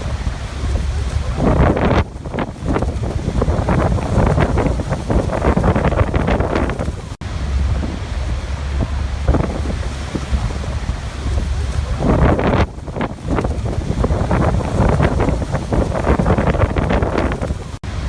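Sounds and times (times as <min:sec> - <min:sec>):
waterfall rushing: 0:00.0 - 0:18.0
wind buffeting microphone: 0:00.0 - 0:18.0.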